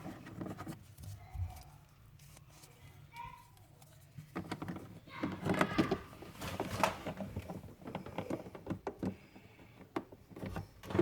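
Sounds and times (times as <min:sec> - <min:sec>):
plastic parts clicking and knocking: 0:00.0 - 0:02.0, 0:03.5 - 0:11.0.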